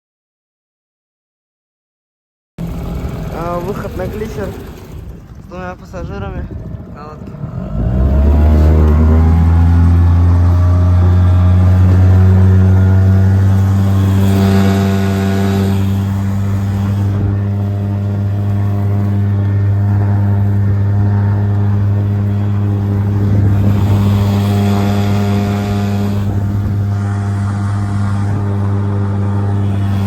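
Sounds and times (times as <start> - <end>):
outboard motor running: 2.6 - 30.0
rushing noise: 2.6 - 30.0.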